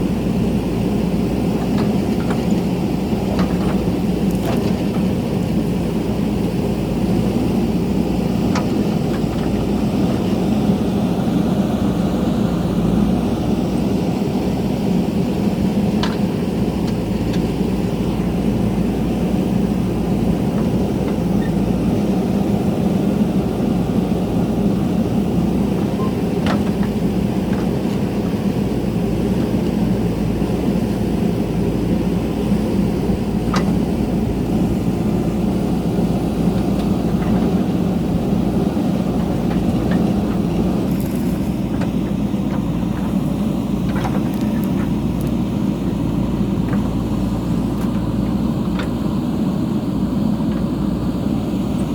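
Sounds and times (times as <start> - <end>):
backhoe diesel engine running: 0.0 - 51.9.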